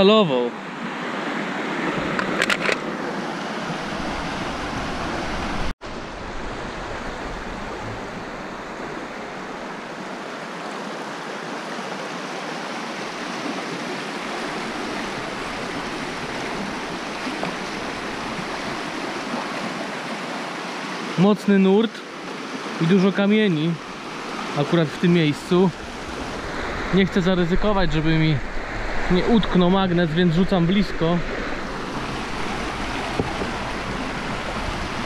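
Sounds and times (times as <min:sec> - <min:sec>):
river rushing over stones: 0:00.7 - 0:28.4, 0:29.0 - 0:35.0.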